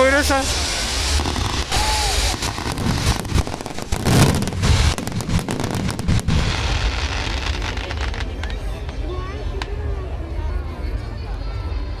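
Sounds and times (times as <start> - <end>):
fireworks crackling and popping: 0.0 - 9.8.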